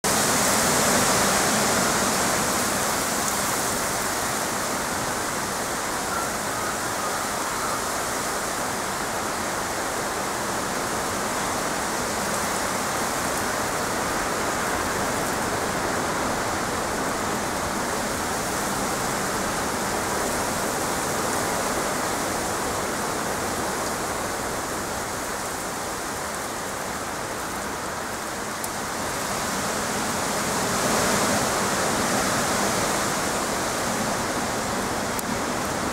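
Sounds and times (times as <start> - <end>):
heavy rain on trees and grass: 0.0 - 35.9.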